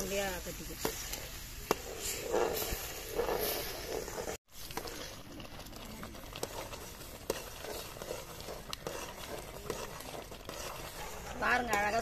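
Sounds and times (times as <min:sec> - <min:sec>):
mixture sizzling in pan: 0:00.0 - 0:12.0
spoon scraping pan: 0:00.1 - 0:12.0.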